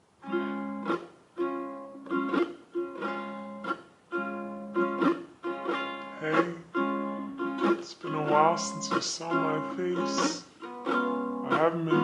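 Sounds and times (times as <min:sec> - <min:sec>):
slowed ukulele strumming: 0:00.0 - 0:12.0.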